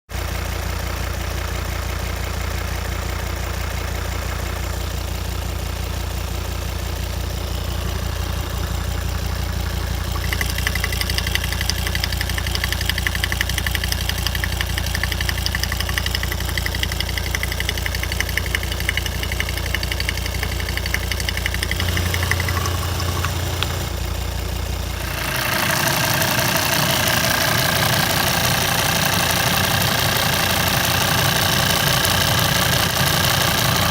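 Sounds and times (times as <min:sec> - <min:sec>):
engine idling: 0:00.1 - 0:33.9
fast engine ticking: 0:00.1 - 0:33.9.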